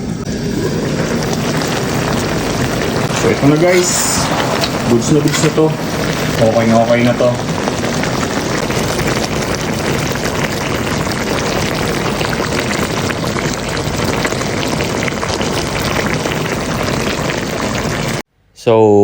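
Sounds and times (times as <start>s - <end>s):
chicken sizzling in a pan: 0.0s - 18.2s.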